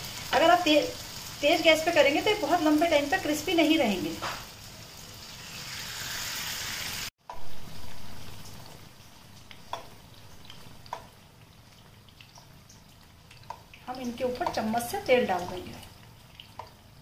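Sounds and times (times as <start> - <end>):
potatoes sizzling in oil: 0.0 - 12.8, 13.4 - 16.2.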